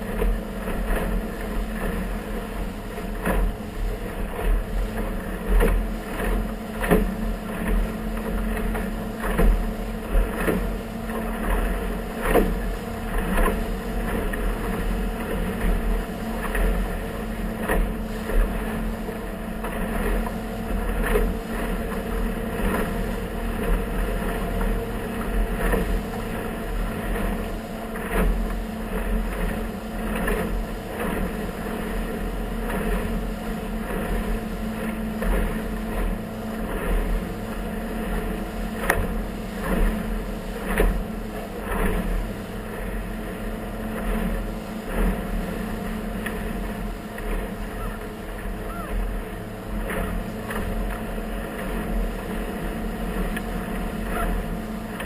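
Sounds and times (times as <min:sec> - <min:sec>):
motorboat engine running: 0:00.0 - 0:55.0
water slapping against hull: 0:00.0 - 0:55.0.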